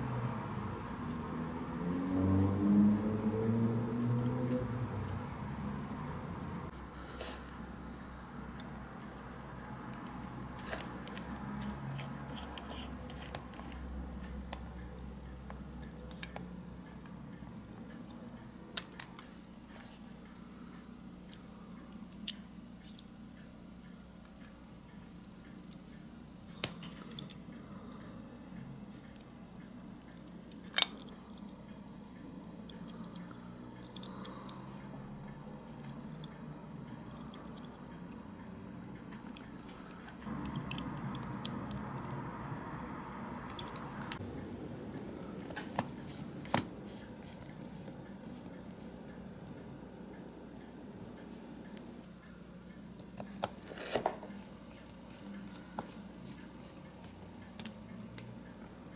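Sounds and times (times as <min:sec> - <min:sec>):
low steady hum: 0:00.0 - 0:58.9.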